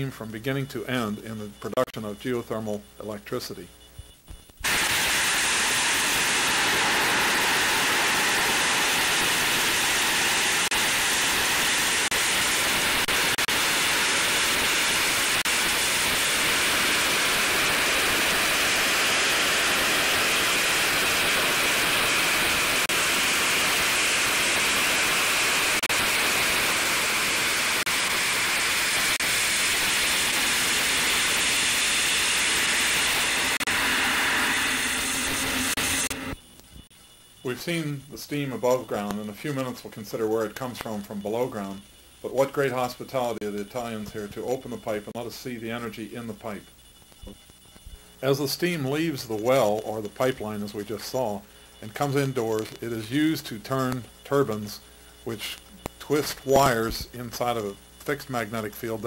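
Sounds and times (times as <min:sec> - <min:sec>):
steam jetting with loud hiss: 0:04.6 - 0:59.0.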